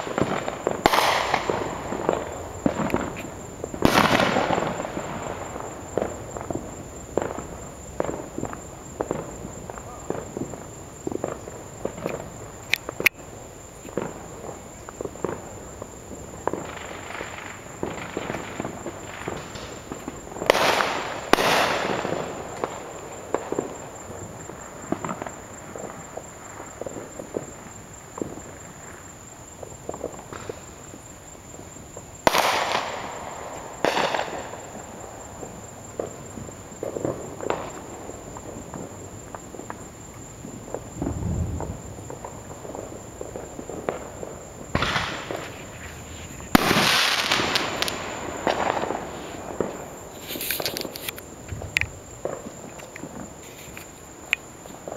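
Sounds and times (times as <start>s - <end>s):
echoing firework bangs: 0.0s - 13.1s, 13.9s - 30.7s, 32.0s - 53.4s
firecrackers popping: 0.0s - 31.0s, 31.9s - 54.9s.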